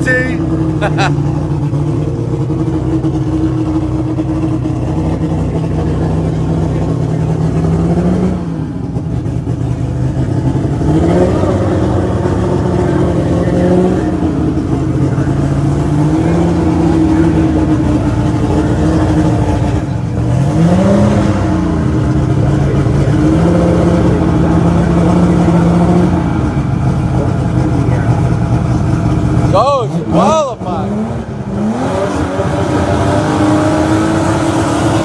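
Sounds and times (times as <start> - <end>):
racing car engine revving: 0.0 - 35.0.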